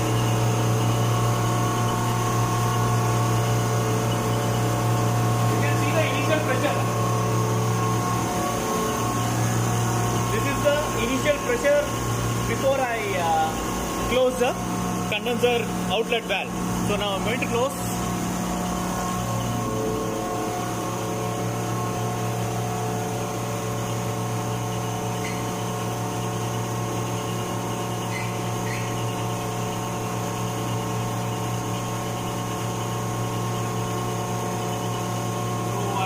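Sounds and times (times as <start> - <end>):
compressor machinery hum: 0.0 - 36.0.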